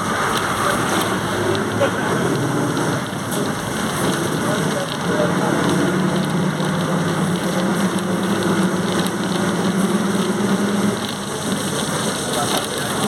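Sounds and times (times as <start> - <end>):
bus engine running: 0.0 - 13.0
road noise: 0.0 - 13.0.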